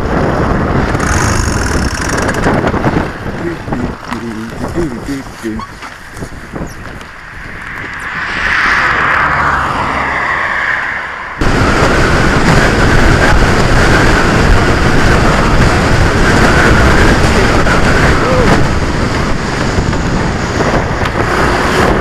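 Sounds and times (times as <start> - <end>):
motorcycle engine roar: 0.0 - 5.8, 6.6 - 22.0
wind rushing over helmet: 0.0 - 22.0.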